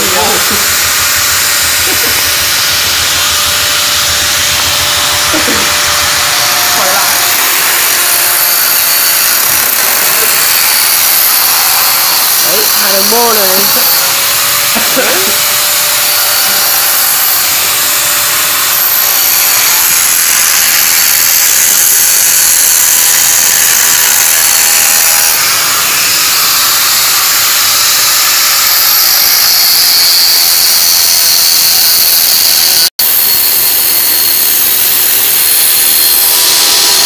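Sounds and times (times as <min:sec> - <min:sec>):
power tool running: 0:00.0 - 0:37.0.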